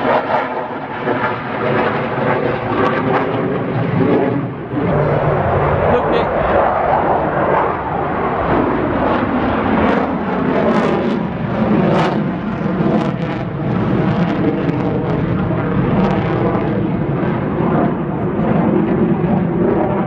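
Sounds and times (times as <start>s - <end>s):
aircraft engine: 0.0s - 20.0s.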